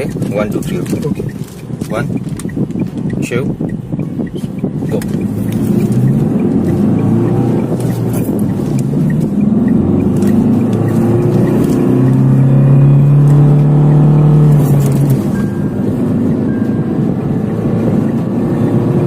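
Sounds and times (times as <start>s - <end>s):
diesel engine accelerating: 0.0s - 19.0s.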